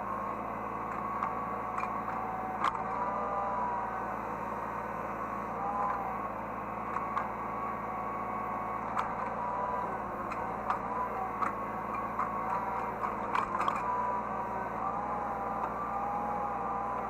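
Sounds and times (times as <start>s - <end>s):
excavator engine drone: 0.0s - 17.0s
hydraulic whine: 0.0s - 17.0s.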